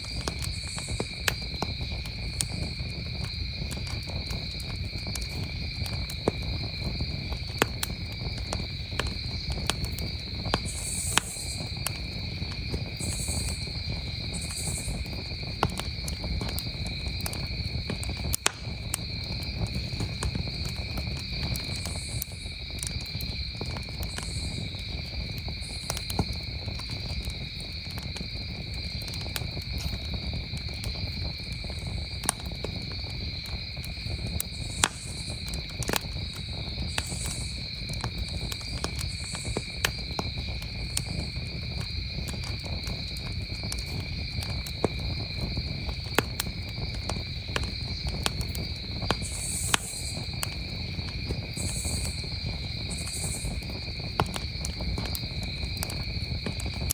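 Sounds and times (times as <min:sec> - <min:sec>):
campfire crackling and popping: 0:00.0 - 0:56.9
crickets chirping: 0:00.0 - 0:56.9.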